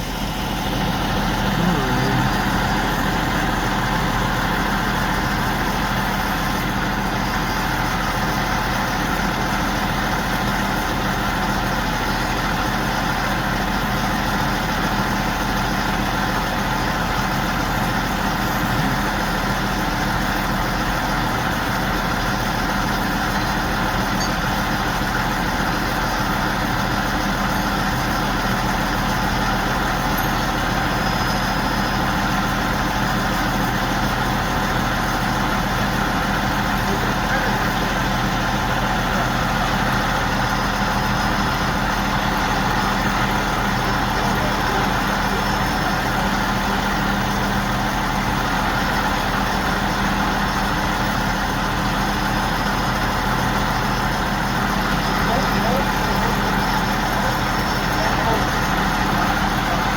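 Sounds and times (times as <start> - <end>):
heavy crane engine running: 0.0 - 59.9.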